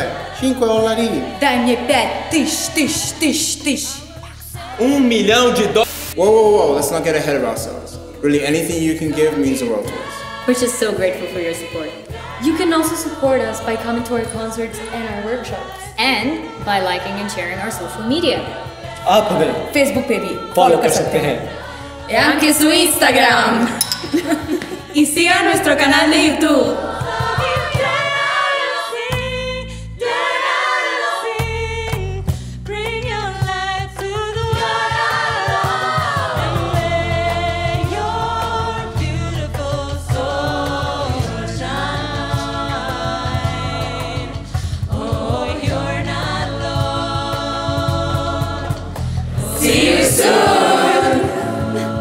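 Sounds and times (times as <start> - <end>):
vocal group singing in harmony: 0.0 - 52.0.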